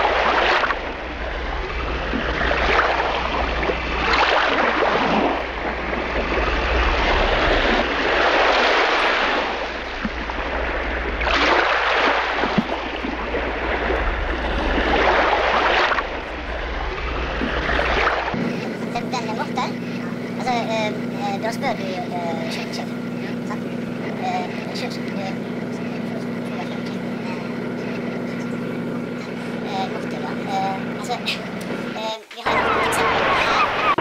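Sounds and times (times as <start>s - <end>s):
steady low hum: 0.0s - 34.0s
water rushing along boat hull: 0.0s - 34.0s.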